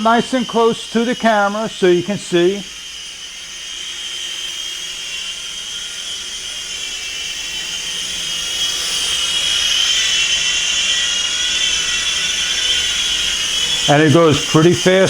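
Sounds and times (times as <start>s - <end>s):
toy helicopter rotor whine: 0.0s - 15.0s.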